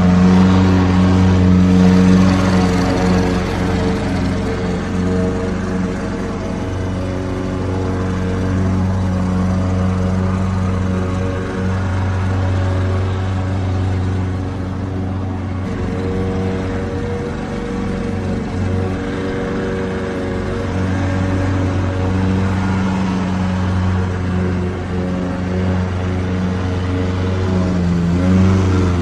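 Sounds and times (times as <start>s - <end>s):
lawnmower engine running: 0.0s - 29.0s.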